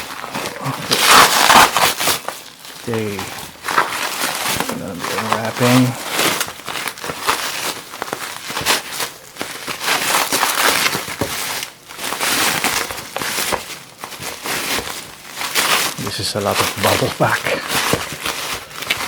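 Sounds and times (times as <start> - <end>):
bubble wrap crackling: 0.0 - 19.0.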